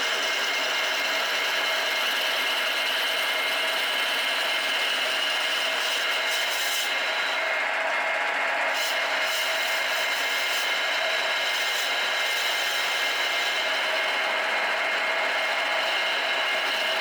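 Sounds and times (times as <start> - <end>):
small power tool whining: 0.0 - 17.0.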